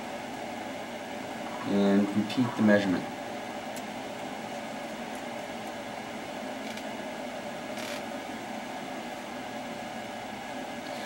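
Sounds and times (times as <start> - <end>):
fan hum and hiss: 0.0 - 11.0.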